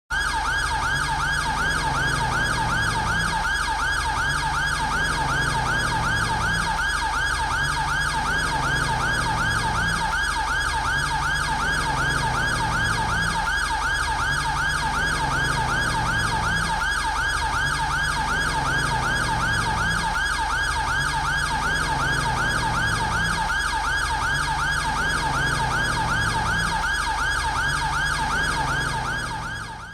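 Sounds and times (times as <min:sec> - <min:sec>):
police siren yelp: 0:00.1 - 0:29.9.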